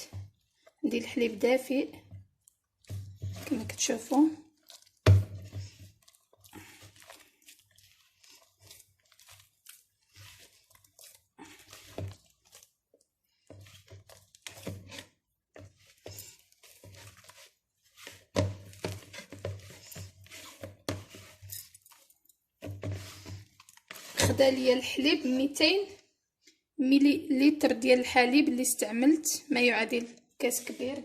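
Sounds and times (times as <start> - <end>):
hands squelching sticky dough: 0.0 - 26.7.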